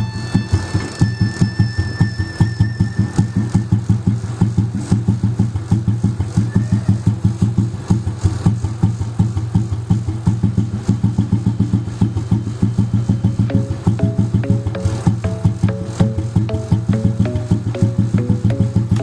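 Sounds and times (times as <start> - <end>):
motorcycle engine idling: 3.3 - 19.0.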